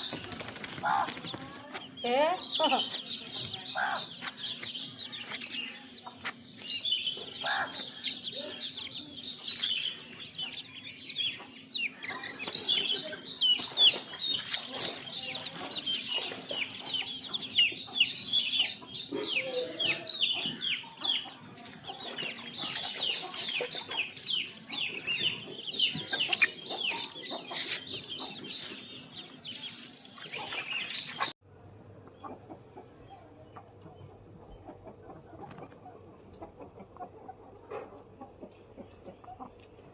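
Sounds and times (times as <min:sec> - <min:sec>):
chickens peeping: 0:00.0 - 0:39.9.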